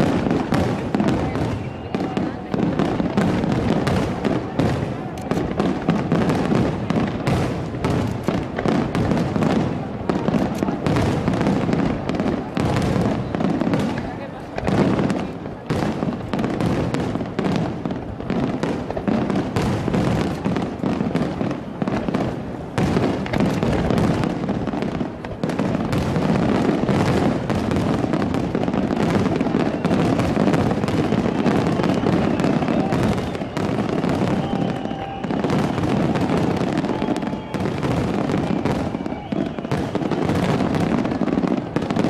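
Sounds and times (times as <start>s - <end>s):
fireworks booming and crackling: 0.0s - 42.0s.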